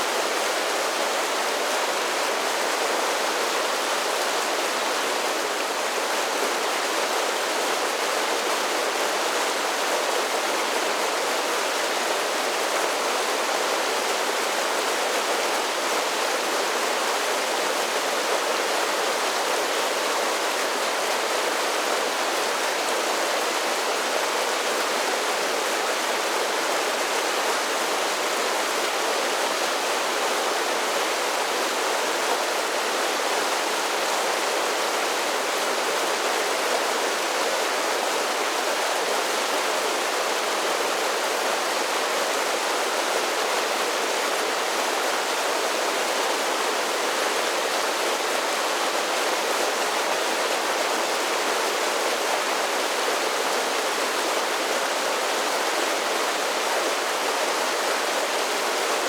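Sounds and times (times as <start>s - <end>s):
creek rushing over waterfalls: 0.0s - 59.0s.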